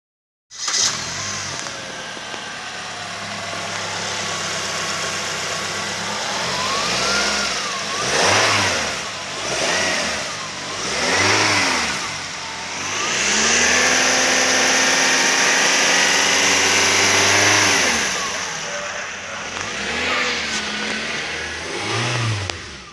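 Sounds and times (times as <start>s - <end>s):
car engine starting and revving: 0.5s - 22.9s.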